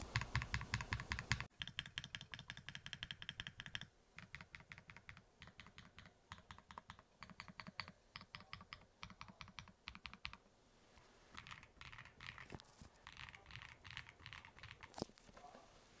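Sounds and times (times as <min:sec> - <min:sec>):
mechanical keyboard typing: 0:00.0 - 0:10.4, 0:11.3 - 0:15.1.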